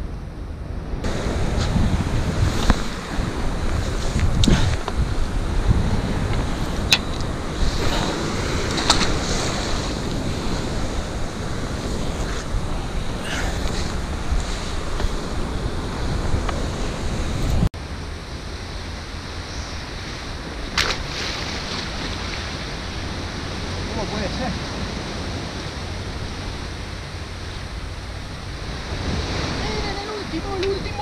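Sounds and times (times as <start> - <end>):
wind buffeting microphone: 0.0 - 31.0
surf washing against rocks: 1.0 - 31.0.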